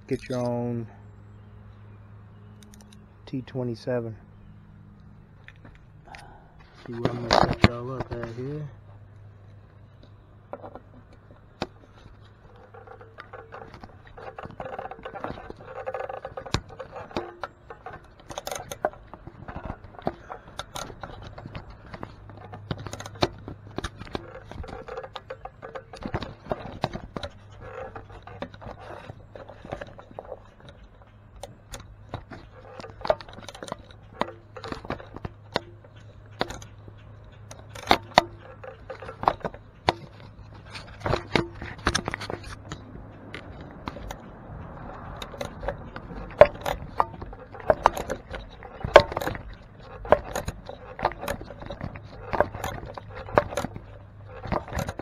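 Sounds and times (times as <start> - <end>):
metallic clicks and scrapes: 0.0 - 1.0, 2.5 - 3.7, 5.4 - 55.0.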